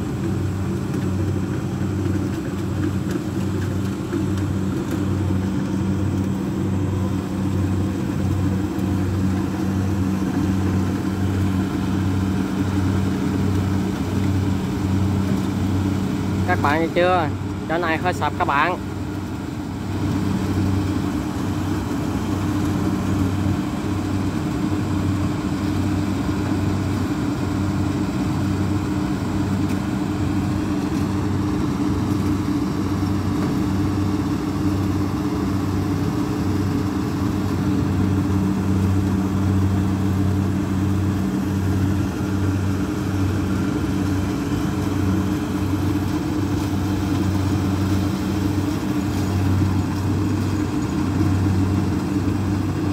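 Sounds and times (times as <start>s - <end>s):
combine harvester engine drone: 0.0s - 52.9s.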